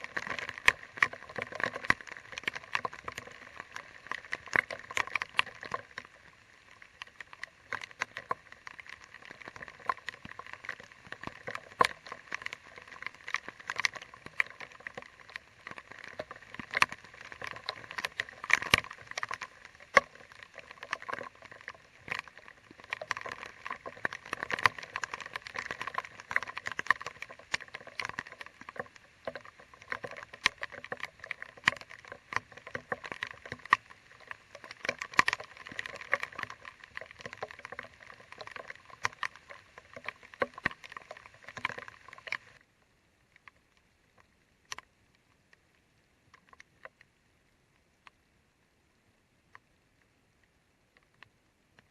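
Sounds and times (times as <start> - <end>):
raindrops ticking: 0.0 - 42.6.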